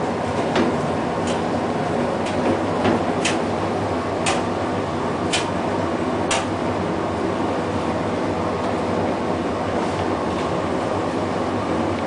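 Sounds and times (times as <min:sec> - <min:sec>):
tumble dryer running: 0:00.0 - 0:12.0.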